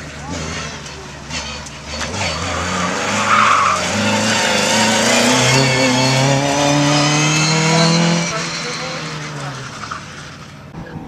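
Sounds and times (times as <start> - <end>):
rally car engine revving: 0.0 - 11.0
tyre squeal: 0.5 - 10.5.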